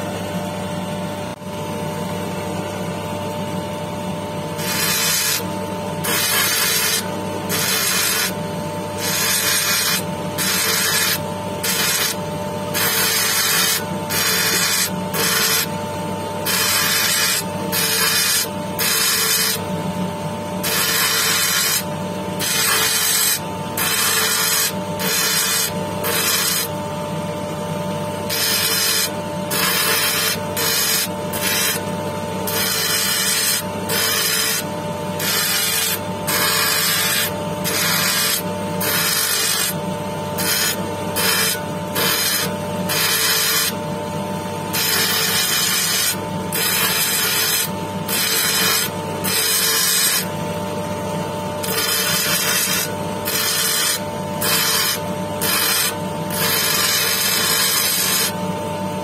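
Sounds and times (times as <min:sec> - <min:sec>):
machine motor hum: 0:00.0 - 0:59.0
stone rasping on grinding wheel: 0:04.4 - 0:44.0, 0:44.6 - 0:58.4.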